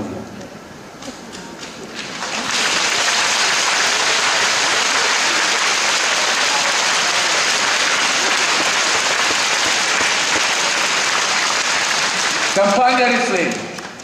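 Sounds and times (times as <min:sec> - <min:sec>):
audience applauding: 0:01.7 - 0:14.0.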